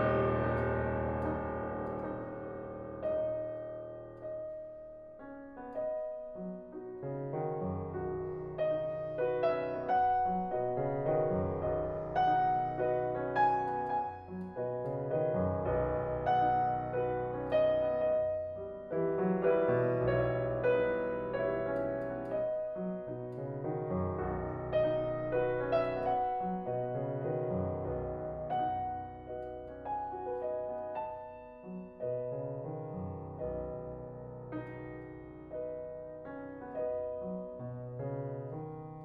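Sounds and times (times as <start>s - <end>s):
solo piano classical music: 0.0s - 39.0s.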